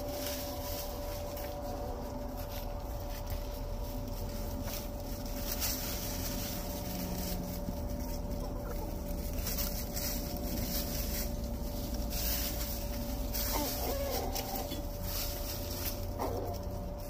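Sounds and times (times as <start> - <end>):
hens clucking: 0.0 - 17.0
steady hum: 0.0 - 17.0.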